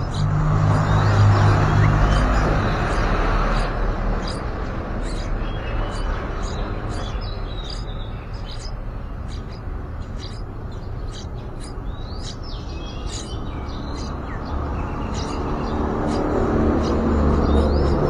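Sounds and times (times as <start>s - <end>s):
nestlings chirping: 0.0s - 18.0s.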